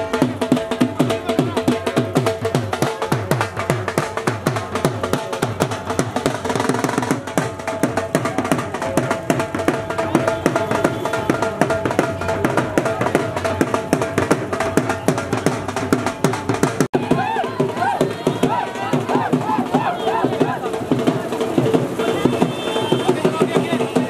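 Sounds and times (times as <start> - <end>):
dhol drums beating: 0.0 - 24.0.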